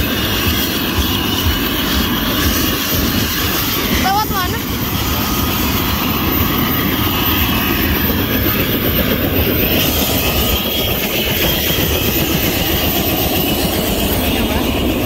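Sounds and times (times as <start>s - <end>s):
helicopter engine and rotor rumble: 0.0s - 15.0s.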